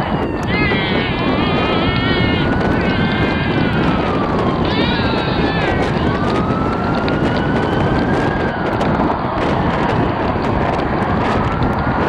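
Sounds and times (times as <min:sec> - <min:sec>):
siren wailing: 0:00.0 - 0:12.0
street traffic rushing: 0:00.0 - 0:12.0.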